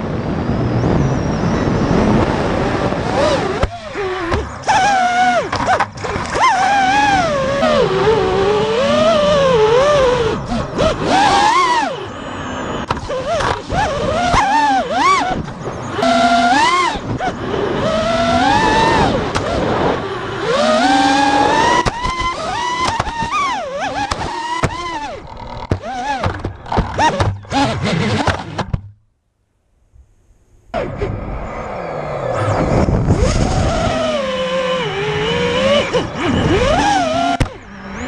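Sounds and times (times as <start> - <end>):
drone motors whining: 0.0 - 28.9, 30.4 - 38.0.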